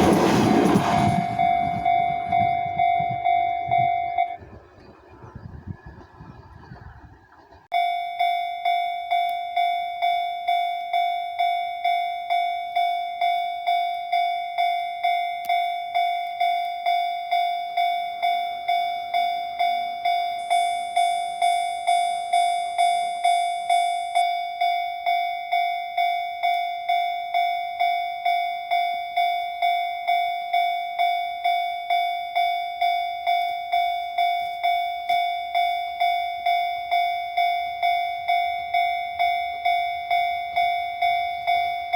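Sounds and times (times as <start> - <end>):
level crossing warning bell ringing: 0.0 - 4.5, 7.7 - 41.9.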